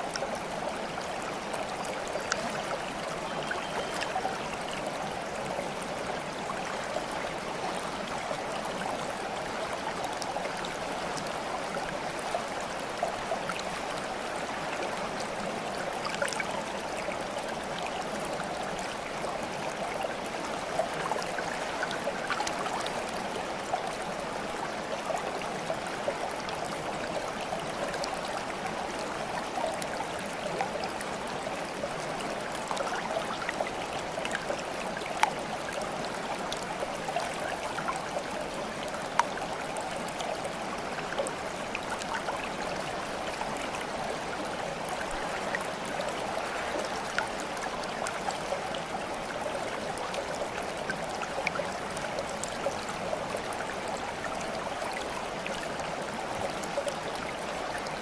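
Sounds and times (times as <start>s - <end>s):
stream babbling: 0.0s - 58.0s
water splashes and drips: 0.0s - 58.0s.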